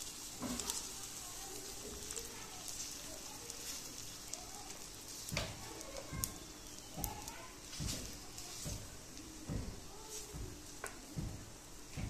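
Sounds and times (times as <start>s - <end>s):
batter sizzling in frying pan: 0.0s - 12.0s.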